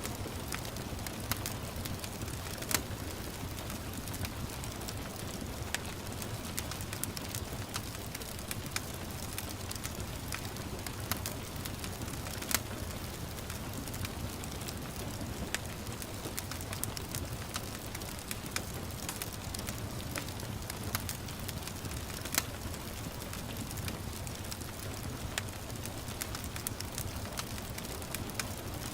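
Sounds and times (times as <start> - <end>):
gentle rain hissing: 0.0 - 28.9
wood fire crackling and popping: 0.0 - 28.9.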